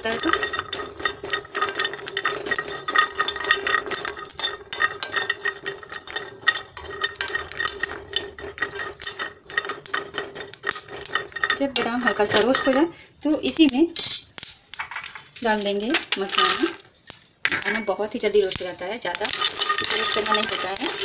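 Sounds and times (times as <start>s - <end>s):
almonds rattling and crackling: 0.0s - 21.0s
metal spoon scraping a pan: 0.0s - 21.0s.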